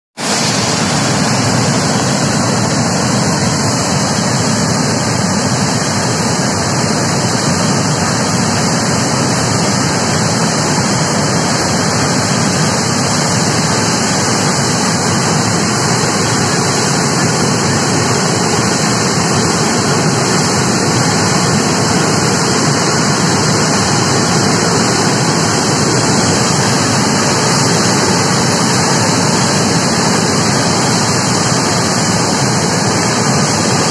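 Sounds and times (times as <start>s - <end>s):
water rushing over spillway: 0.2s - 33.9s.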